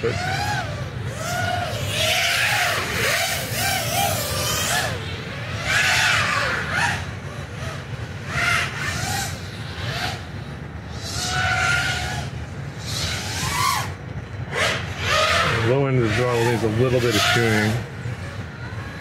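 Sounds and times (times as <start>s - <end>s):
propeller rush: 0.0s - 19.0s
quadcopter motor whine: 0.0s - 19.0s.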